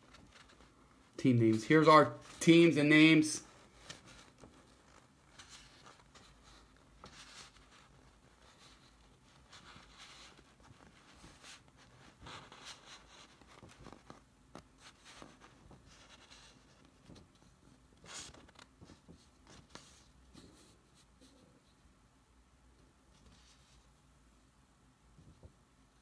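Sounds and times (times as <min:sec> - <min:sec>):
paper rustling: 0:00.0 - 0:21.4.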